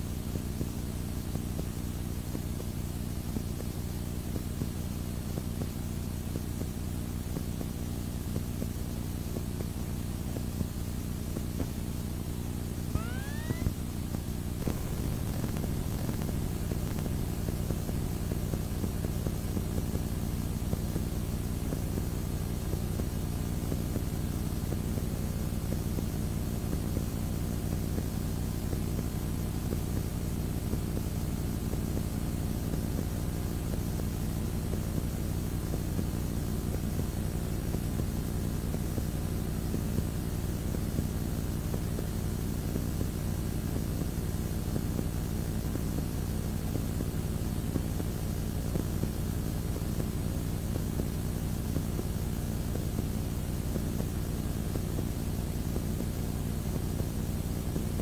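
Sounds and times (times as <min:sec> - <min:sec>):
faint hiss: 0:00.0 - 0:58.0.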